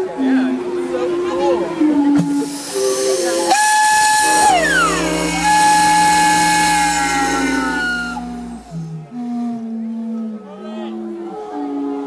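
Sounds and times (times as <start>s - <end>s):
high steam whistle pitch sliding down: 2.3s - 12.0s.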